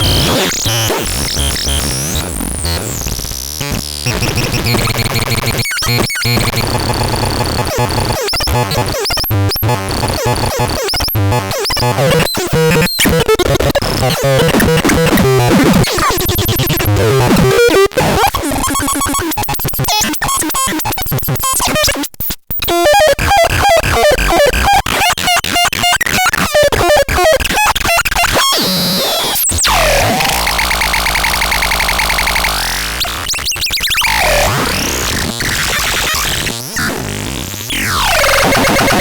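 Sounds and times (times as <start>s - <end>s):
glitchy electronic noise music: 0.0s - 21.7s, 22.6s - 39.0s.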